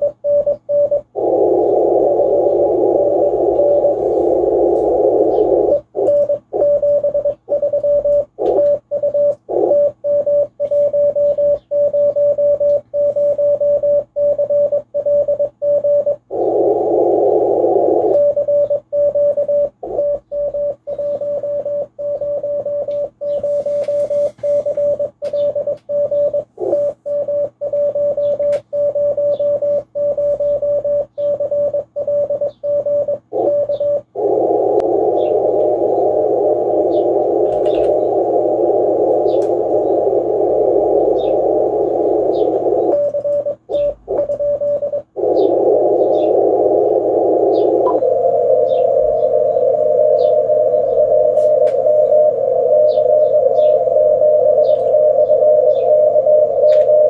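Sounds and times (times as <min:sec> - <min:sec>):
morse code tone: 0:00.0 - 0:57.0
radio receiver hiss: 0:00.0 - 0:57.0.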